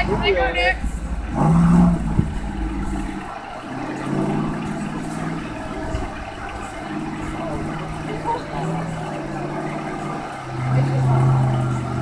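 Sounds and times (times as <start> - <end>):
truck churning through mud: 0.0 - 12.0
truck engine running: 0.0 - 12.0.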